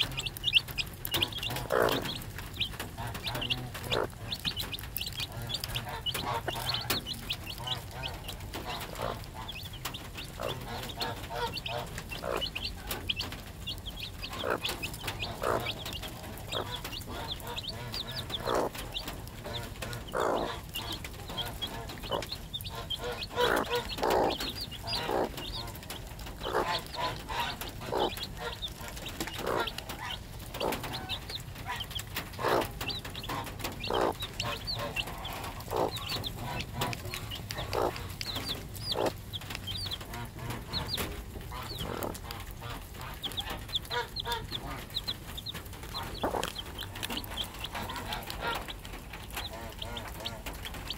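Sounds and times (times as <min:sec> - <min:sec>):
chicks peeping: 0:00.0 - 0:50.9
hen clucking: 0:00.0 - 0:50.9.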